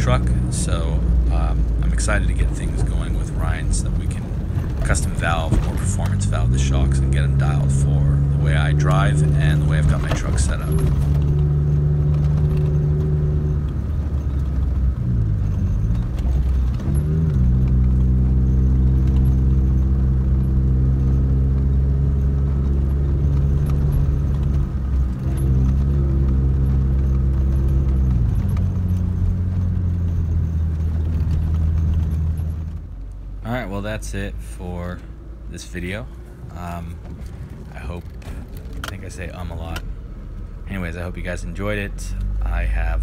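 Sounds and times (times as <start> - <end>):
truck engine drone: 0.0 - 43.0.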